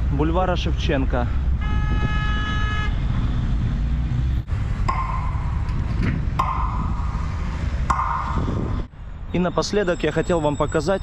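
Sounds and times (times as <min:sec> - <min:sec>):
road traffic rumble: 0:00.0 - 0:11.0
wind: 0:00.0 - 0:11.0.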